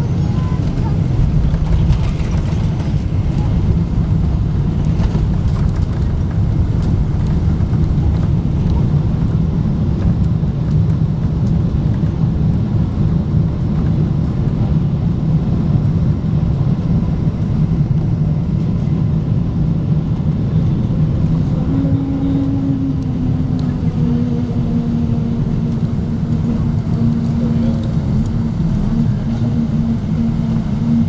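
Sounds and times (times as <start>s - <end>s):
airplane cabin engine rumble: 0.0s - 31.0s.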